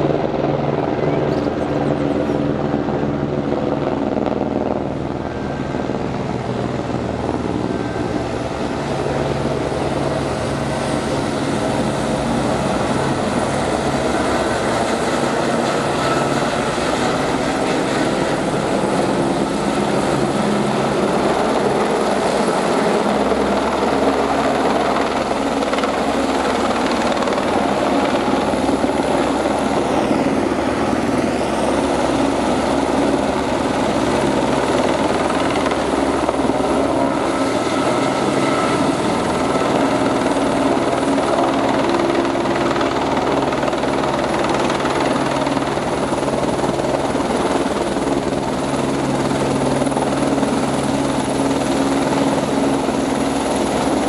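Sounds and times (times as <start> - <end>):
helicopter flying overhead: 0.0 - 54.0.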